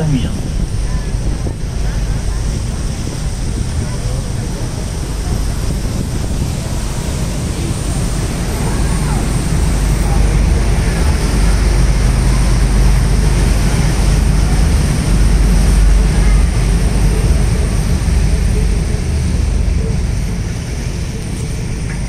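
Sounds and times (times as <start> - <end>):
boat engine low rumble: 0.0 - 22.0
noisy hiss: 0.0 - 22.0.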